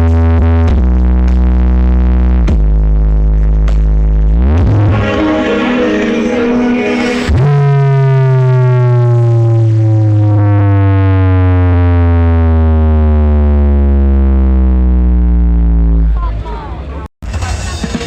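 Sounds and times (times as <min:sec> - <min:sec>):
synthesized tone sliding into deep bass: 0:00.0 - 0:16.2.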